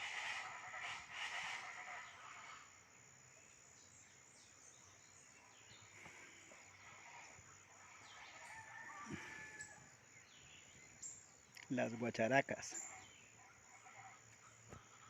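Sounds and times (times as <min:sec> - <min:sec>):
chachalacas calling: 0:00.0 - 0:15.0
scattered bird calls: 0:00.0 - 0:15.0.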